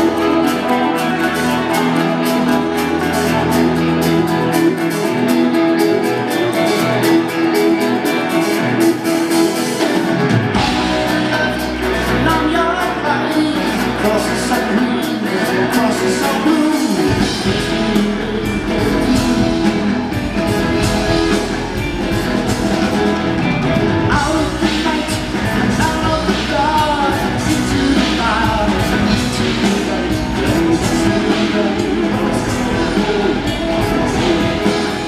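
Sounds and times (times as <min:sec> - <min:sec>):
lead vocal singing: 0:00.0 - 0:23.1, 0:23.8 - 0:35.0
live rock band playing: 0:00.0 - 0:35.0.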